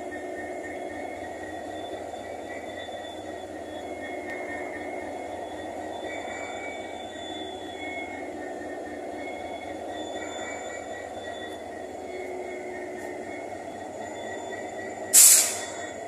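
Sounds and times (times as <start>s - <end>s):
diesel locomotive rumble: 0.0s - 16.0s
high humming traction motors: 0.0s - 16.0s.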